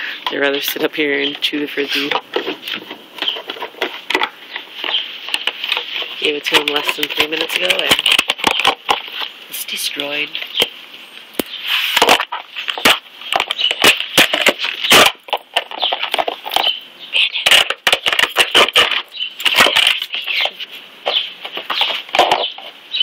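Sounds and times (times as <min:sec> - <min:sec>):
dog chewing plastic frisbee: 0:00.2 - 0:09.4, 0:11.4 - 0:22.8
clicks and scrapes on wooden deck: 0:00.2 - 0:10.7, 0:11.4 - 0:22.8.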